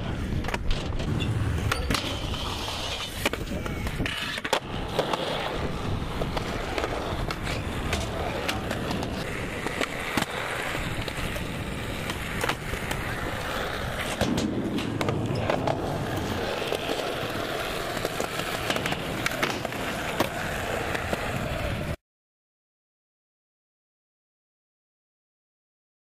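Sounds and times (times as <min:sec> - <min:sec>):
skateboard clacks: 0:00.0 - 0:22.0
skateboard wheels rolling on concrete: 0:00.0 - 0:22.0.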